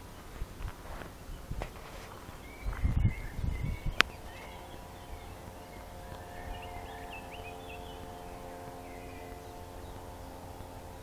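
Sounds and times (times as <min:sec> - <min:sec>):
faint steady hum: 0:00.0 - 0:11.0
songbird singing: 0:00.0 - 0:11.0.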